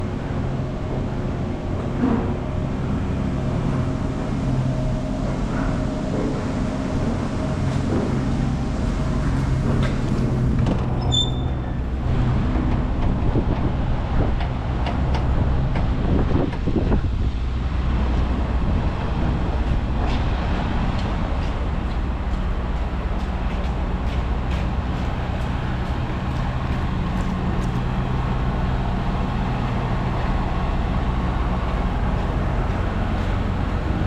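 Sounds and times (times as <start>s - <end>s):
vehicle engine hum: 0.0s - 34.0s.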